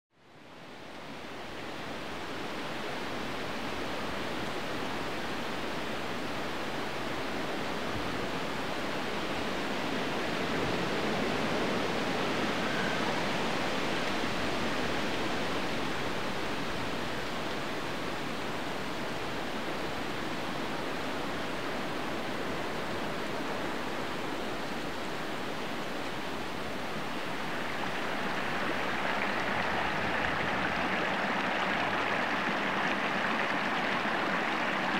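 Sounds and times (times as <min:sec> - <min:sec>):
stream running over rocks: 0:00.6 - 0:34.9.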